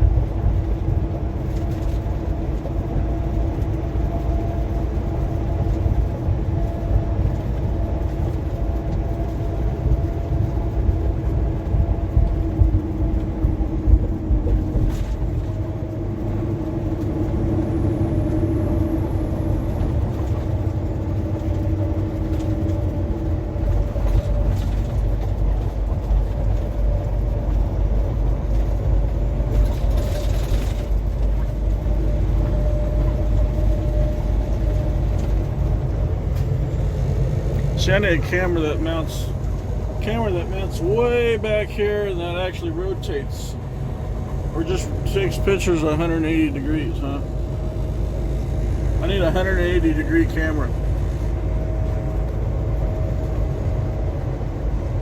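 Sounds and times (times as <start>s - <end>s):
truck engine and road drone: 0.0s - 55.0s.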